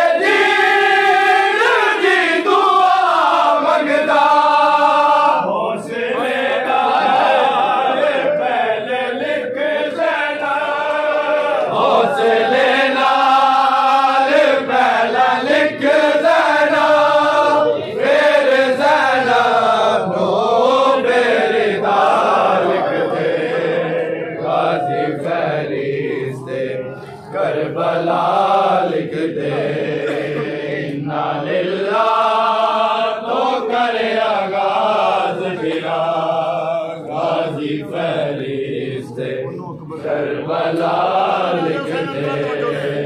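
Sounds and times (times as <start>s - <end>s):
men chanting a lament: 0.0s - 43.0s.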